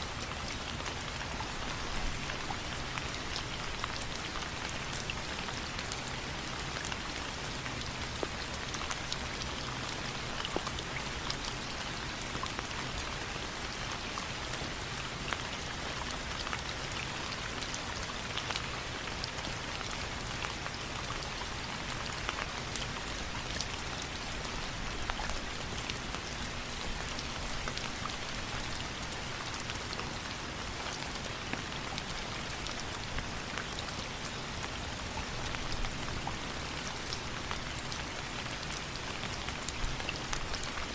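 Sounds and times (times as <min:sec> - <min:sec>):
rain ticks and pops: 0:00.0 - 0:40.9
steady rain: 0:00.0 - 0:40.9.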